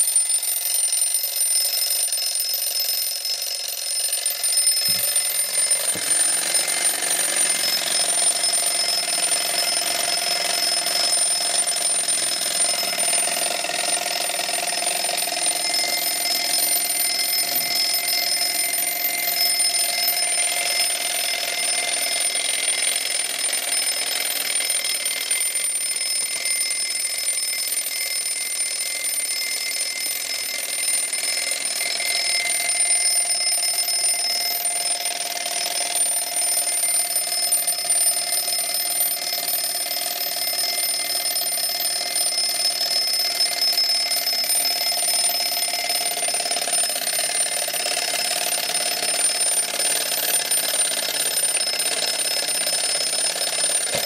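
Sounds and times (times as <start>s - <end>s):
alarm clock bell ringing: 0.0s - 54.0s.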